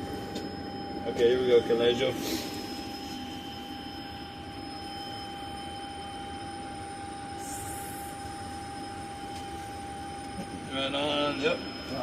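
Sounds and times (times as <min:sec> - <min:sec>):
constant whining tones: 0:00.0 - 0:12.0
mechanical hum: 0:00.0 - 0:12.0.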